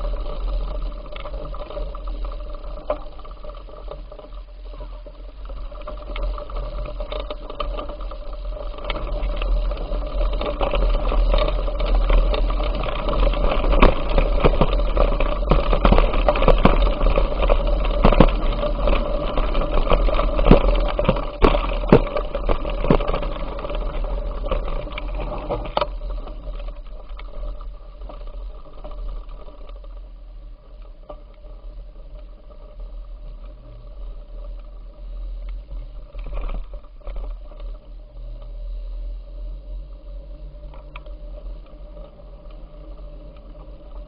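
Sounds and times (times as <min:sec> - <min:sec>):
bicycle rattling and knocking: 0:00.0 - 0:44.0
wind rumble on microphone: 0:00.0 - 0:44.0.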